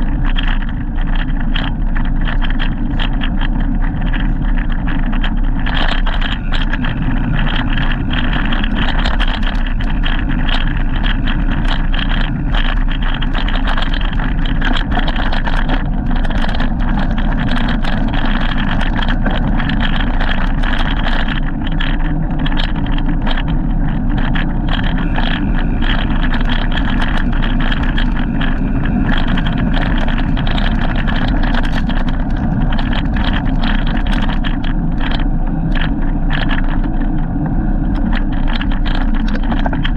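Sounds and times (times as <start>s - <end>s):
bike rattles and knocks: 0.0s - 39.9s
bike riding rushing noise: 0.0s - 39.9s.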